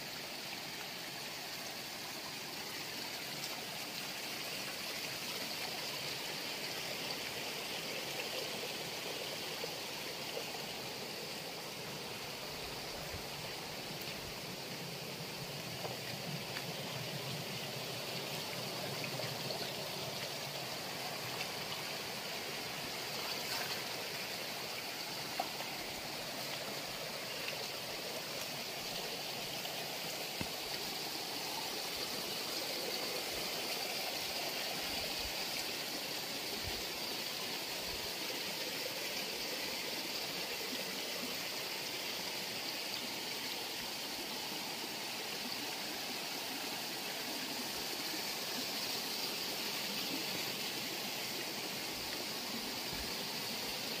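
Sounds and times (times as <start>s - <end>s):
water rushing down rocky channel: 0.3s - 54.0s.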